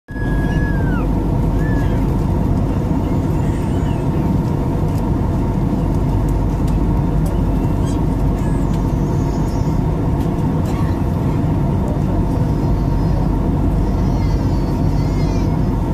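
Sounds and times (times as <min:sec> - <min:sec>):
airliner cabin engine hum: 0:00.1 - 0:15.9.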